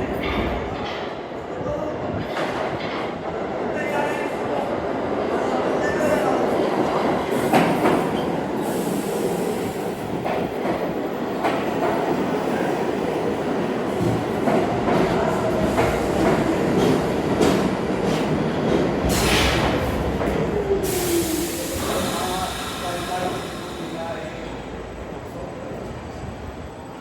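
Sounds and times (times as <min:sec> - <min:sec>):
subway train rumbling on rails: 0:00.0 - 0:27.0.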